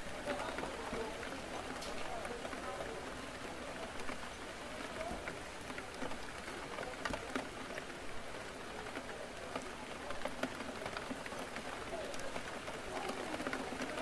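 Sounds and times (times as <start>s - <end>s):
murmur of cafe chatter: 0.0s - 14.0s
rain on a window pane: 0.0s - 14.0s.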